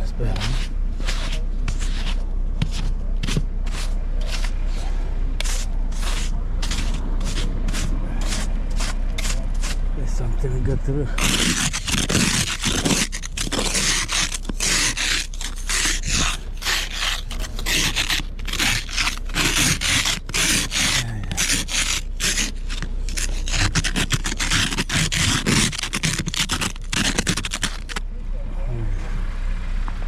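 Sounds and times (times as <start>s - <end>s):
snow shovel scraping snow: 0.0s - 28.0s.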